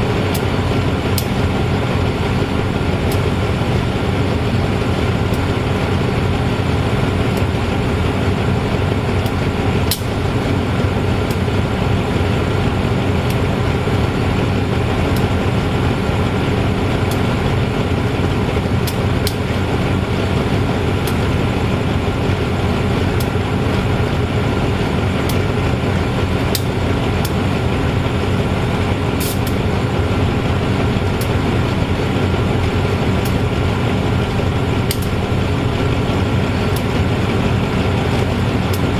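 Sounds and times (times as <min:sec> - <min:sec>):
locomotive engine idling: 0:00.0 - 0:38.9.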